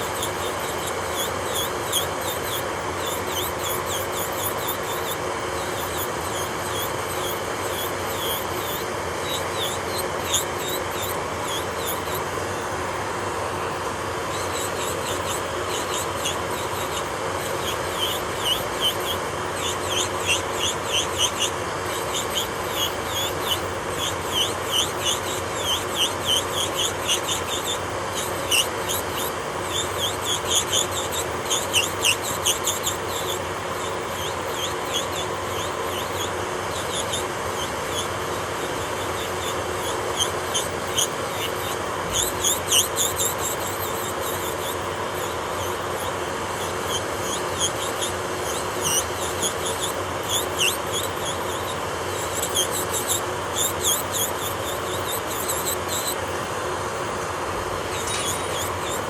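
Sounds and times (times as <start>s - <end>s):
drill bit grinding nail: 0.0s - 59.0s
nail drill motor hum: 0.0s - 59.0s.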